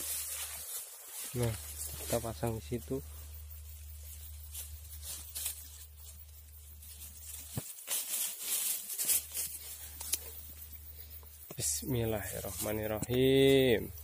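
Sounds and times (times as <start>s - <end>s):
grass stems rustling: 0.0s - 14.0s.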